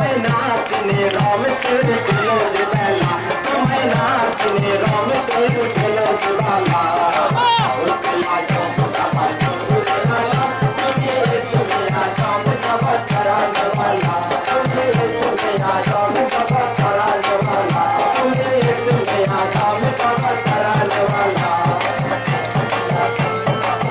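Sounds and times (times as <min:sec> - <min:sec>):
fast steady drum beat: 0:00.0 - 0:23.9.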